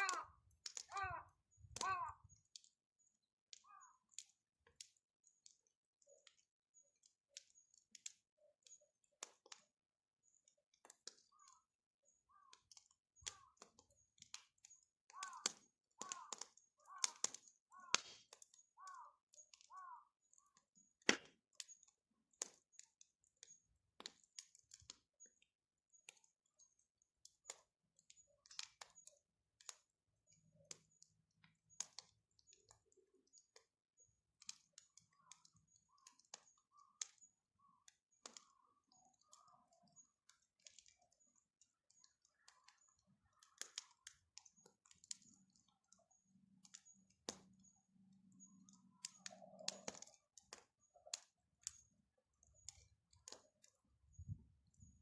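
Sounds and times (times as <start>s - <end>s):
bonfire crackling and popping: 0.0s - 55.0s.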